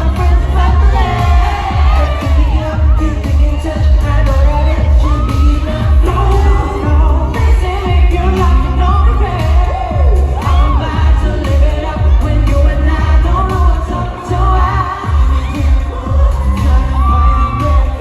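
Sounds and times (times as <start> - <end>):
backing track with heavy bass beat: 0.0 - 18.0
male vocal group singing: 0.0 - 18.0.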